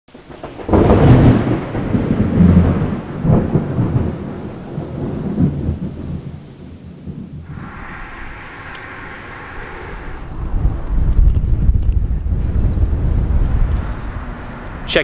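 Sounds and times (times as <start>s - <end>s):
thunderclap rolling: 0.1s - 15.0s.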